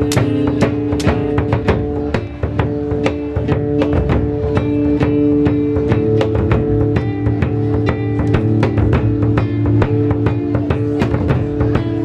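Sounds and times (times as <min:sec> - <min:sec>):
barrel drums beaten with sticks: 0:00.0 - 0:12.0.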